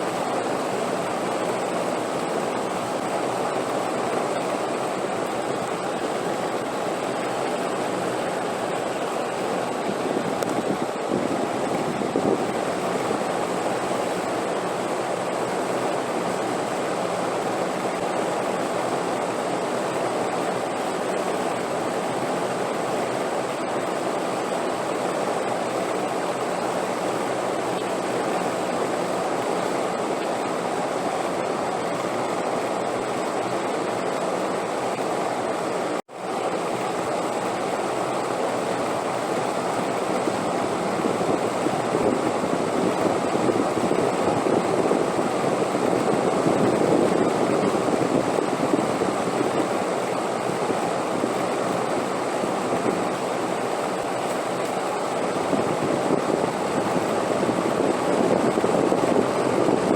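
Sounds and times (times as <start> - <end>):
steady wind noise: 0.0 - 59.9.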